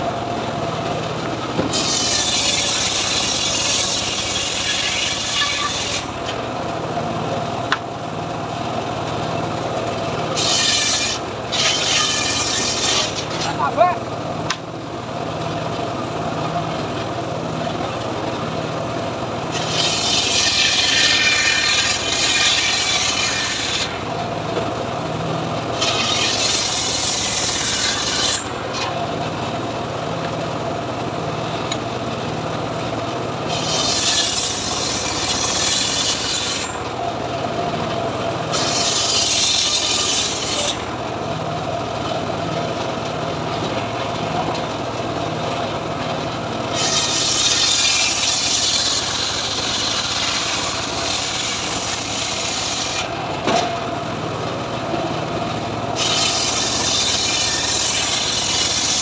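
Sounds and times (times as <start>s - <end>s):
saw cutting through log: 0.0s - 7.8s, 9.0s - 14.7s, 18.2s - 24.3s, 25.1s - 29.9s, 32.8s - 59.0s.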